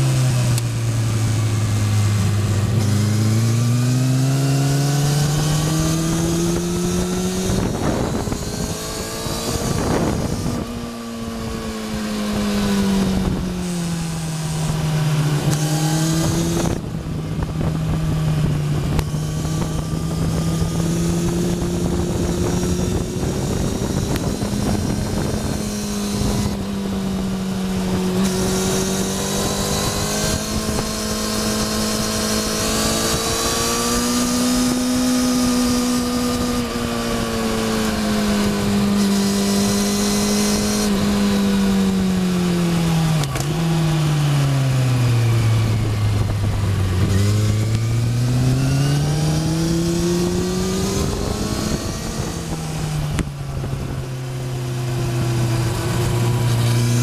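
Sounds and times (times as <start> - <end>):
motorcycle engine accelerating: 0.0 - 57.0
wind rush: 1.5 - 43.2, 44.9 - 57.0.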